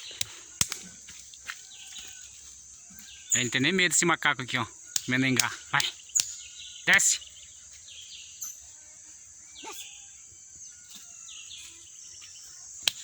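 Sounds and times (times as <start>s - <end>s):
high insect drone: 0.0s - 13.0s
faint high chirps: 1.7s - 13.0s.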